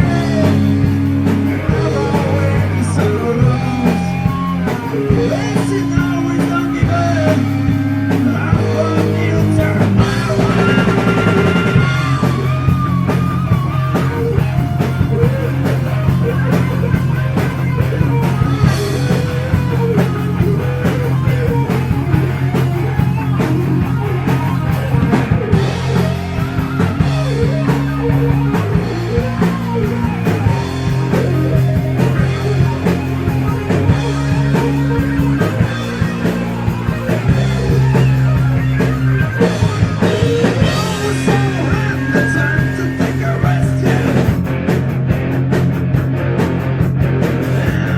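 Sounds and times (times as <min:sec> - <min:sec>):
bending guitar lead lines: 0:00.0 - 0:47.9
distorted electric guitars: 0:00.0 - 0:47.9
heavy metal band playing live: 0:00.0 - 0:47.9
pounding drum kit: 0:00.0 - 0:47.9.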